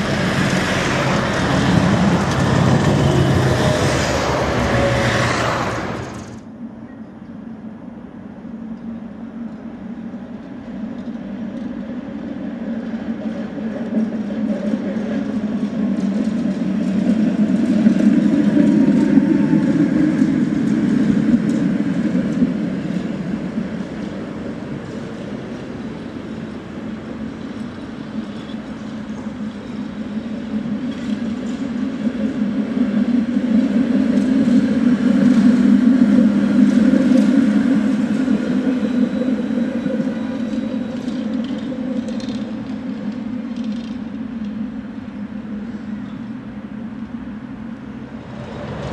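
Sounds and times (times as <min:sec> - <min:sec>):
tram rumbling on track: 0:00.0 - 0:48.9.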